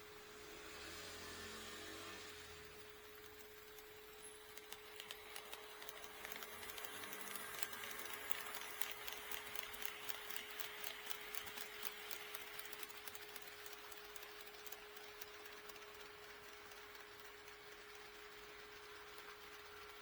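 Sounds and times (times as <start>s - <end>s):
model train wheels clicking: 0.0s - 20.0s.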